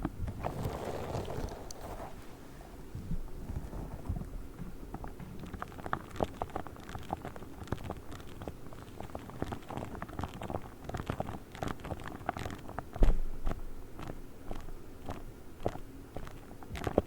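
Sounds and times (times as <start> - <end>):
crackly crunchy clicks and taps: 3.0 - 17.0.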